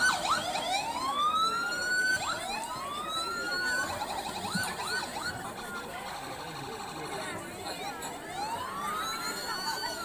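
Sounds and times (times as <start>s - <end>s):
electronic emergency siren: 0.0s - 10.0s.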